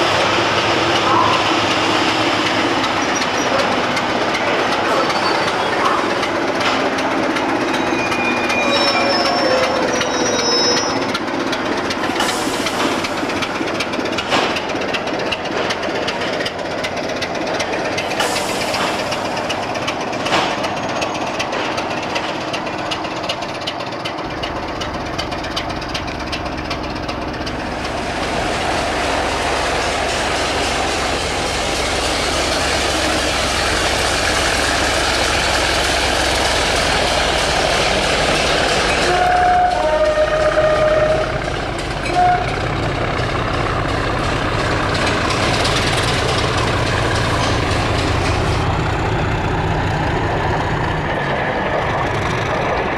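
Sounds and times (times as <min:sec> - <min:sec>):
diesel locomotive engine: 0:00.0 - 0:52.9
rail noise: 0:00.0 - 0:52.9.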